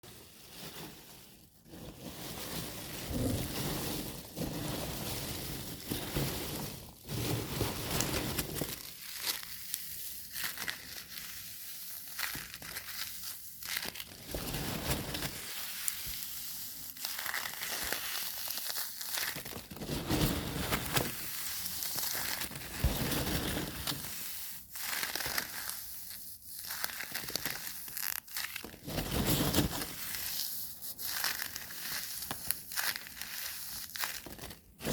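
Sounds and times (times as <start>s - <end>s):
crunching and crinkling: 0.0s - 34.9s.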